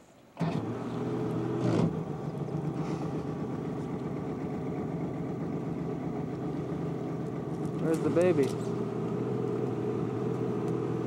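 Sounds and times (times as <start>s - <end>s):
boat motor humming: 0.4s - 11.0s.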